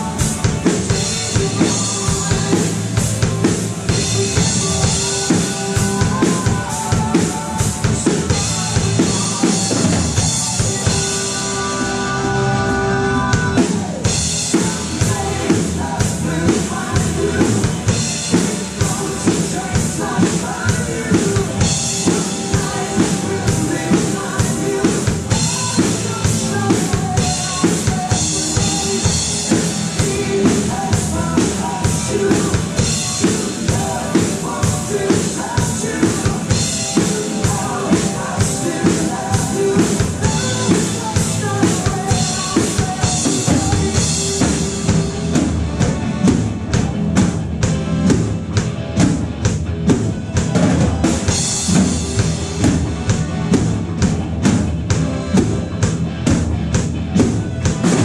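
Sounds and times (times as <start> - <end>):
drum kit kick and snare beat: 0.0 - 11.8, 13.3 - 58.0
recorded rock song: 0.0 - 58.0.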